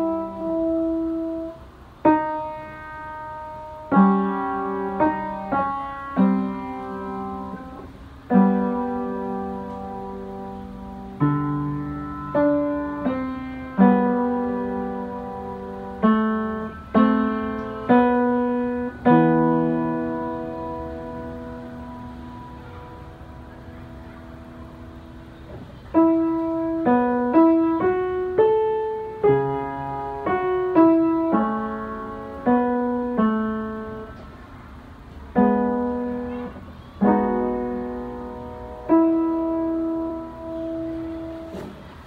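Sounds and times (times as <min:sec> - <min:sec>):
upright piano melody: 0:00.0 - 0:42.0.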